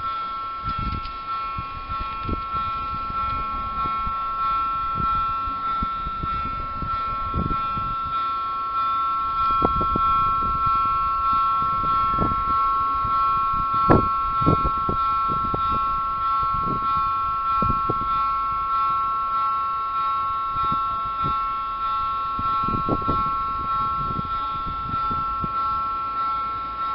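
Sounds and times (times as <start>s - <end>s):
level crossing warning bell: 0.0s - 26.9s.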